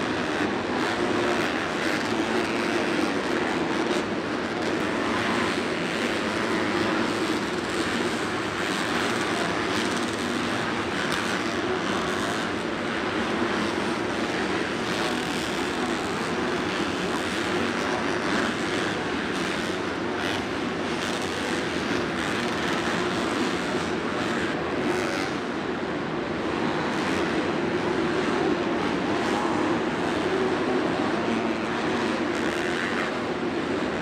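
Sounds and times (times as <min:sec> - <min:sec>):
motorcycle engines droning: 0:00.0 - 0:34.0.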